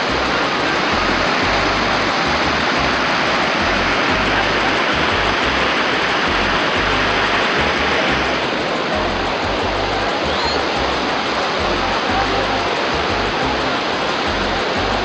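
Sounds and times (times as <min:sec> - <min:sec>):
low rumble: 0:00.0 - 0:15.0
waterfall rushing: 0:00.0 - 0:15.0.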